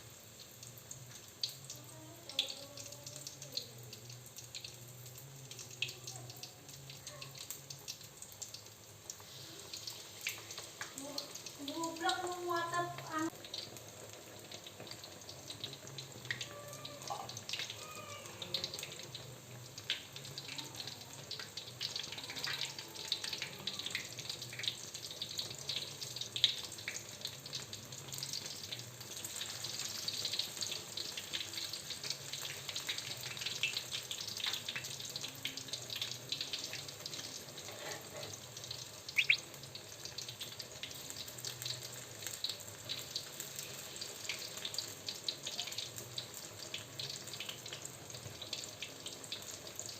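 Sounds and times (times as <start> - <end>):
food sizzling in hot oil: 0.0 - 49.9.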